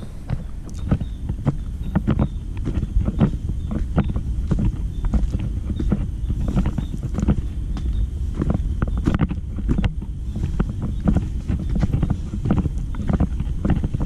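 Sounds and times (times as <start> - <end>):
footsteps on leaves and twigs: 0.0 - 14.0
wind rumble on microphone: 0.0 - 14.0.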